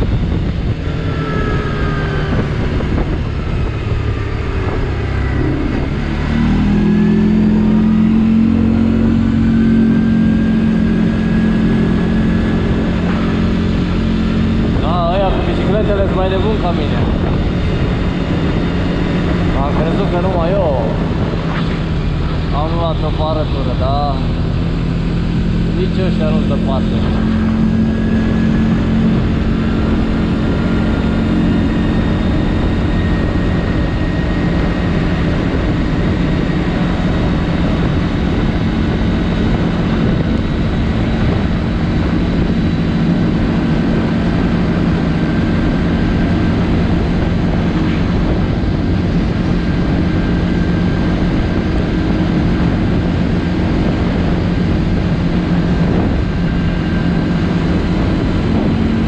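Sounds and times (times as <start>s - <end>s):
quad engine droning: 0.0s - 59.0s.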